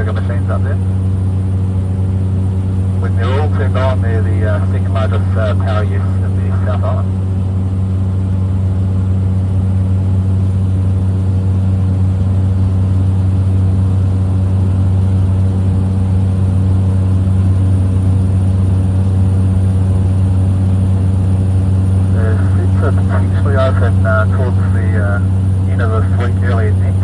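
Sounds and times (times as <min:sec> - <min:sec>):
small plane engine droning: 0:00.0 - 0:27.0.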